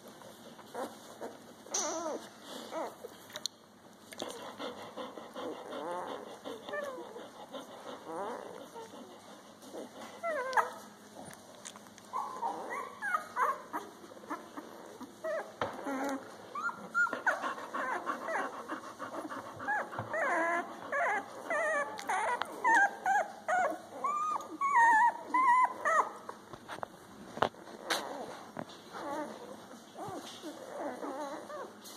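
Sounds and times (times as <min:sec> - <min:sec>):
puppies squeaking and whimpering: 0:00.6 - 0:03.3, 0:04.2 - 0:26.5, 0:27.5 - 0:31.9.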